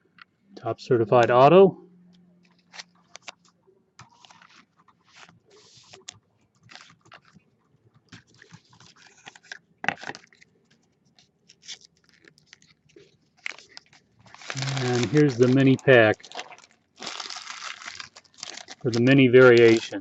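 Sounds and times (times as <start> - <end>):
cards and wrappers rustling: 2.4 - 20.0.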